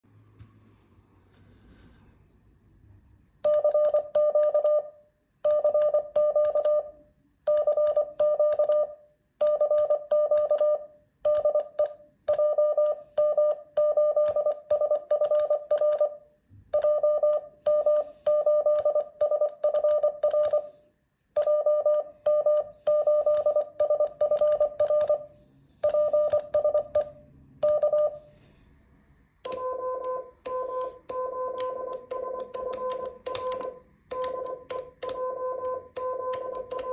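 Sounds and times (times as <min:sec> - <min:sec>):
morse code beeping tone: 0:03.5 - 0:04.9, 0:05.5 - 0:16.2, 0:16.8 - 0:20.7, 0:21.4 - 0:28.3, 0:29.5 - 0:36.9.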